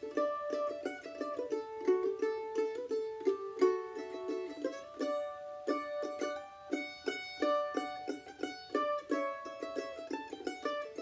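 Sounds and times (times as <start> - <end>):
solo mandolin playing: 0.0 - 11.0.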